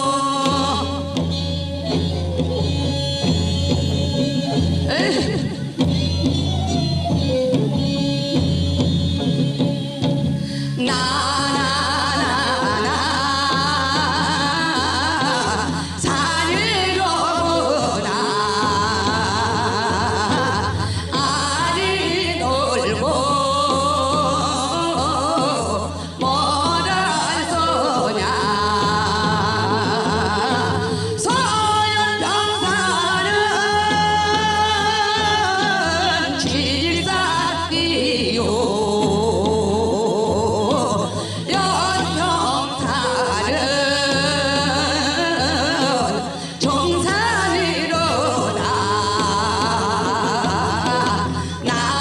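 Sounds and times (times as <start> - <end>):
folk singing with vibrato: 0.0 - 7.3, 10.4 - 52.0.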